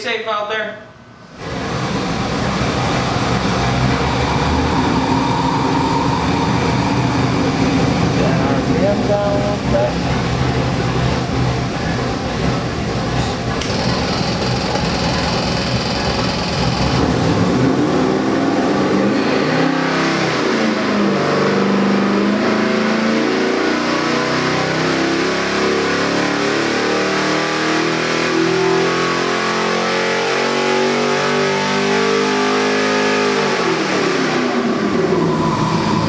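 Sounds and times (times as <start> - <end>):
engine revving under load: 1.2 - 36.0.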